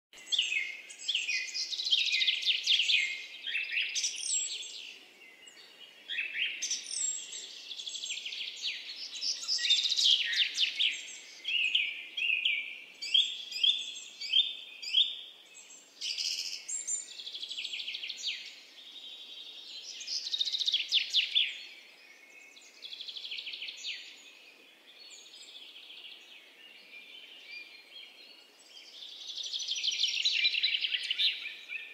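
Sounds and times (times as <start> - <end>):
bird twittering song: 0.2 - 31.9.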